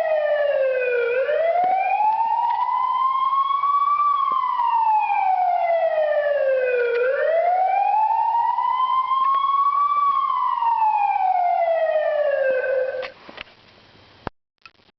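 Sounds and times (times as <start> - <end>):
police siren ringtone: 0.0 - 13.1.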